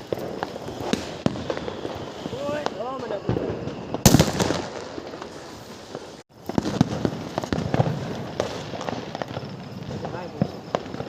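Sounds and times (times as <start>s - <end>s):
firecrackers cracking and popping: 0.0s - 11.0s.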